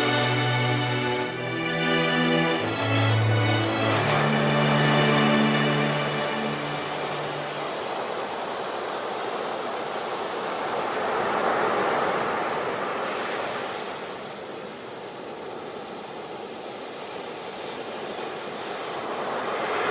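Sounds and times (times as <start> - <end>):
ocean waves rushing: 0.0 - 19.9.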